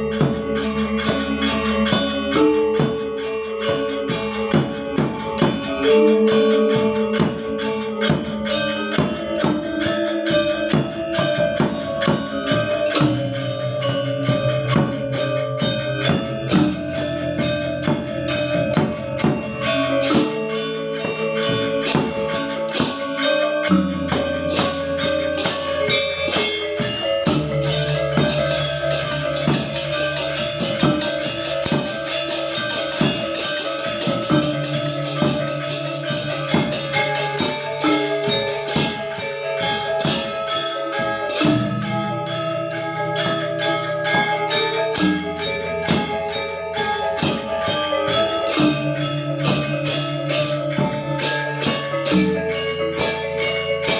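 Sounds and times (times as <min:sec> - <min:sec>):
gamelan ensemble playing: 0:00.0 - 0:53.9.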